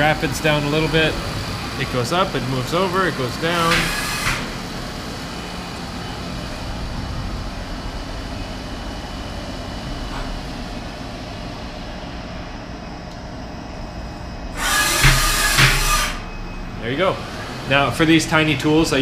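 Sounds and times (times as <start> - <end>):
machining center humming and hissing: 0.0 - 19.0.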